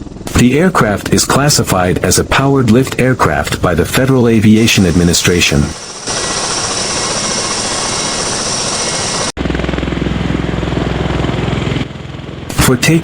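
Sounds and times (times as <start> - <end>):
pulsing rotor beat: 0.0 - 12.8
aircraft engines rushing: 0.0 - 13.0.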